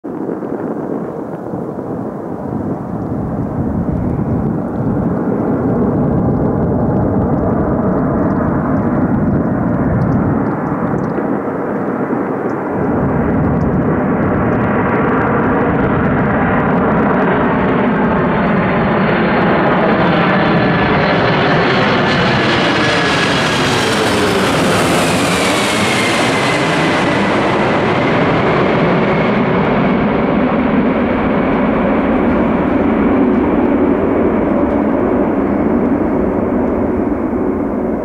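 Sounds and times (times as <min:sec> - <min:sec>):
jet engine whine: 0:00.0 - 0:38.0
jet engines rumbling: 0:00.1 - 0:38.0.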